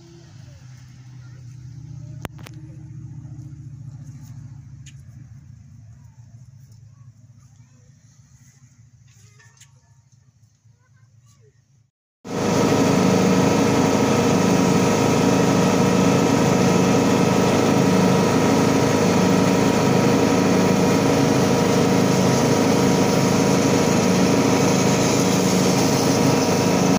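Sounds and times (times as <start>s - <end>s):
riding mower engine running: 0.0s - 9.2s, 12.2s - 26.9s.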